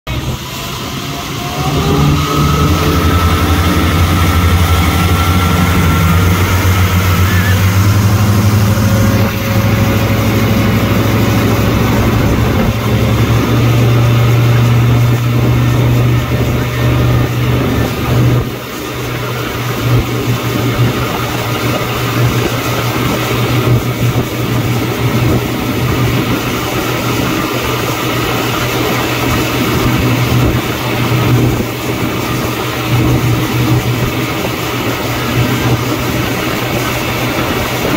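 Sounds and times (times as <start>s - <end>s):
motorboat engine: 0.1s - 37.9s
wake water rushing: 0.1s - 37.9s
wind: 0.1s - 37.9s.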